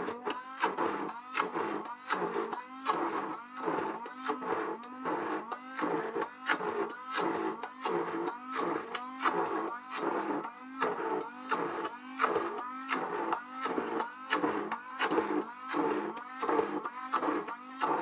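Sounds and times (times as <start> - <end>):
immersion blender motor: 0.0 - 18.0.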